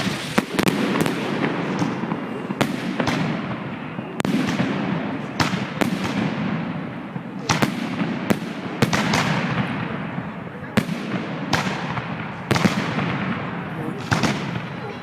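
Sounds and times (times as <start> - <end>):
distant fireworks crackling rumble: 0.0 - 15.0
fireworks sharp bangs: 0.0 - 15.0.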